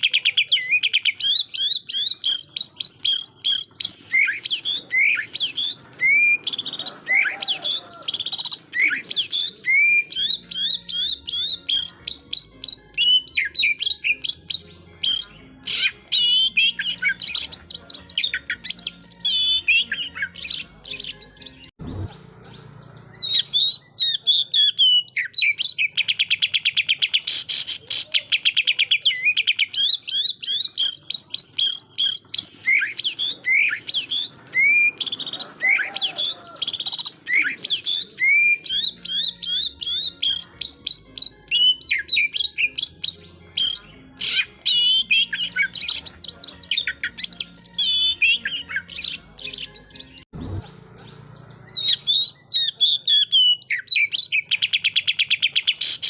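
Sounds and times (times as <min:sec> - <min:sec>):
bird whistling and chattering: 0:00.0 - 0:56.0.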